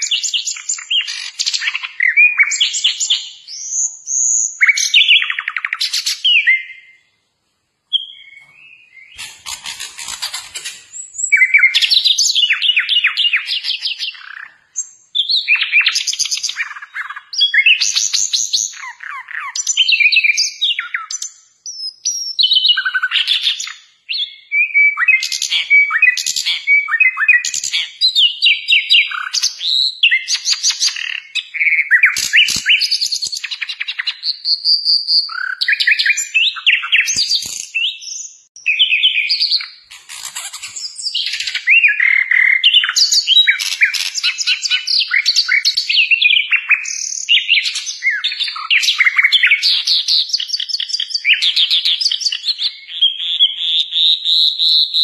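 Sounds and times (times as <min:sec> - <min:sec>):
bird singing with trills: 0:00.0 - 0:07.2, 0:07.9 - 0:55.0.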